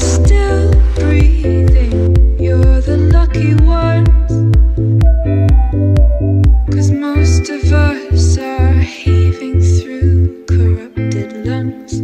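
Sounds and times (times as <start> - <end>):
song with pulsing bass beat: 0.0 - 12.0.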